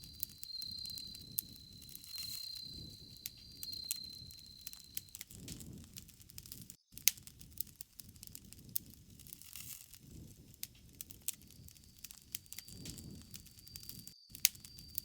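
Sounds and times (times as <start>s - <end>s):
low rumble of flames: 0.0s - 14.1s
campfire crackling and popping: 0.0s - 15.0s.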